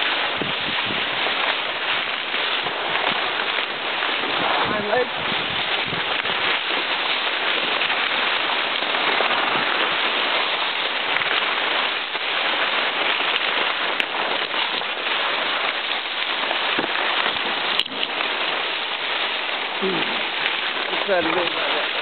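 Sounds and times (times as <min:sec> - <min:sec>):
brush rustling and crackling: 0:00.0 - 0:22.0.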